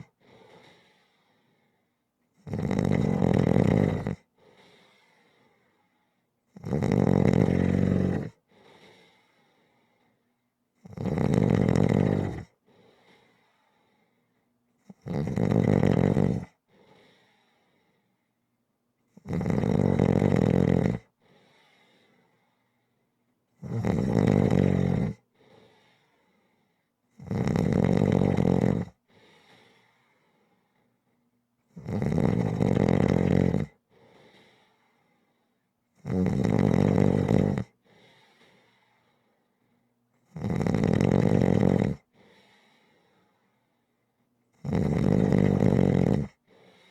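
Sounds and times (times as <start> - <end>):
loud rhythmic snoring: 0.0 - 5.9, 6.5 - 9.9, 10.8 - 14.0, 14.8 - 18.1, 19.1 - 22.5, 23.6 - 30.6, 31.7 - 39.3, 40.2 - 43.4, 44.5 - 46.9.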